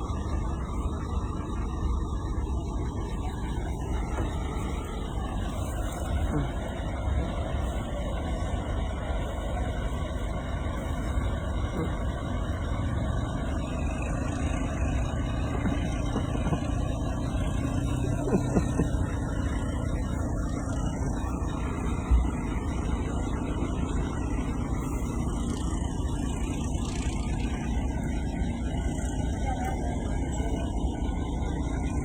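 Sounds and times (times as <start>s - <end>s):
motor vehicle rumble: 0.0s - 32.0s.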